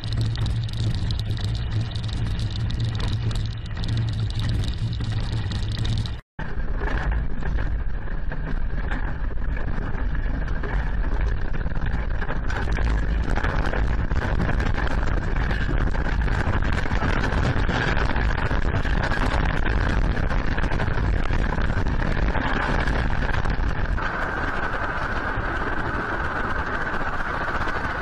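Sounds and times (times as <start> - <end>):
low rumbling and rattling: 0.0 - 28.0.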